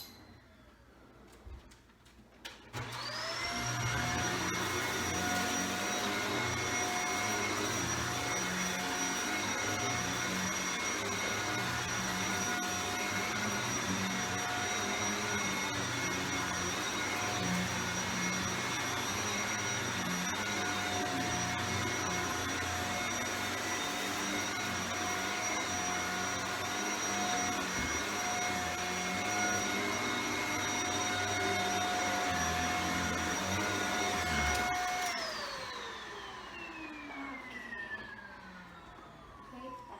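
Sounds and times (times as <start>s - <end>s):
vacuum cleaner whine: 2.5s - 39.9s.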